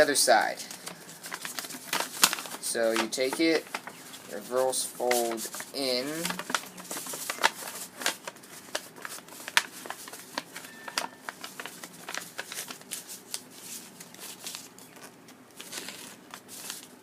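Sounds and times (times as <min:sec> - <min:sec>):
paper crackling and tapping: 0:00.0 - 0:17.0.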